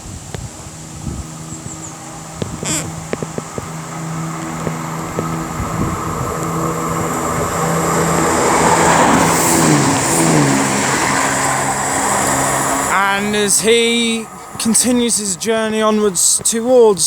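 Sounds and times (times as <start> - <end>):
diesel train engine: 0.0 - 17.0
wheel and rail noise: 0.0 - 17.0.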